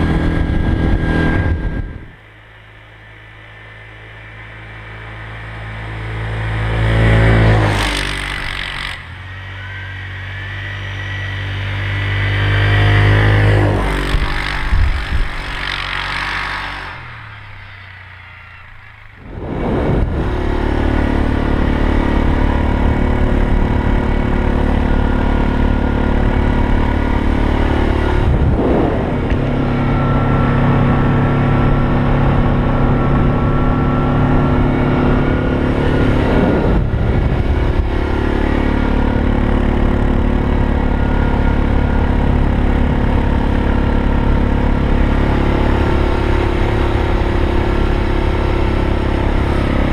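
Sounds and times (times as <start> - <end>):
quad bike engine revving: 0.0 - 2.2, 3.8 - 49.9.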